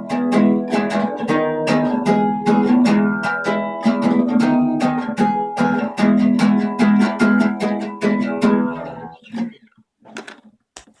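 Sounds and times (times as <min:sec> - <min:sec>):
guitar strumming chords: 0:00.0 - 0:09.6.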